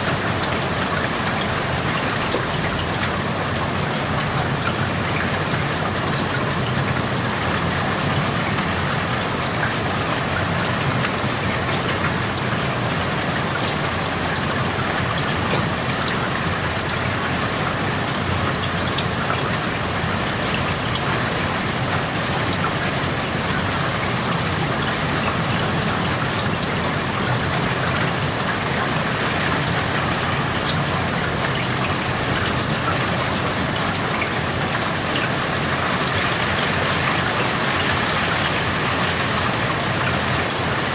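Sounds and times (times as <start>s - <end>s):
raindrops ticking: 0.0s - 40.9s
steady rain hiss: 0.0s - 40.9s.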